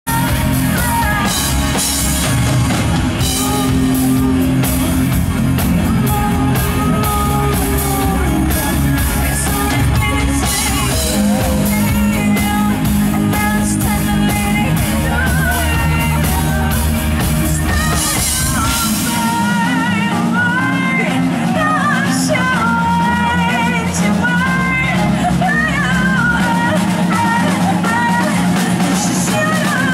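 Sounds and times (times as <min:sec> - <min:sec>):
deep bass: 0:00.1 - 0:29.0
drum kit: 0:00.1 - 0:29.9
electric guitars: 0:00.1 - 0:29.9
person singing: 0:00.1 - 0:29.9.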